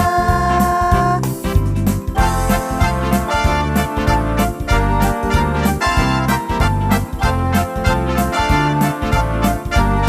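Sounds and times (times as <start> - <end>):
pulsing bass line: 0.0 - 10.0
upbeat electric piano music: 0.0 - 10.0.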